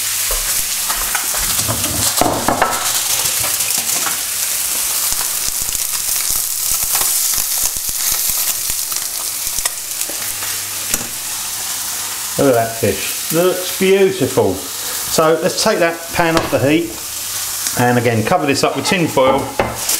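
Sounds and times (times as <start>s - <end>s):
oil sizzling in frying pans: 0.0s - 19.9s.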